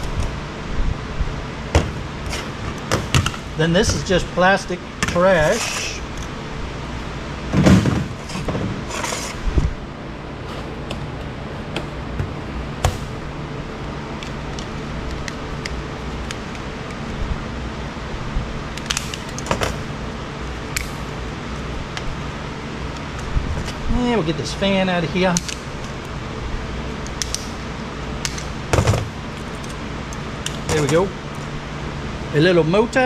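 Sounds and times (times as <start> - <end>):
low hum: 0.0 - 32.7.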